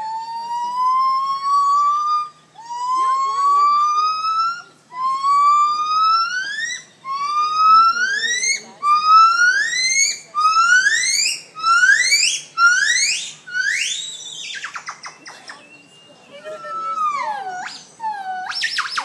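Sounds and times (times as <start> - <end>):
gibbon calling with rising whoops: 0.0 - 19.0.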